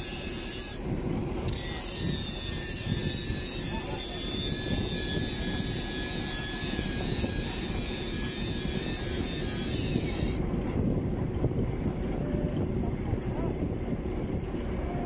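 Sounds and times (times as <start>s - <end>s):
diesel engine noise: 0.0s - 15.0s
wind buffeting microphone: 0.1s - 15.0s.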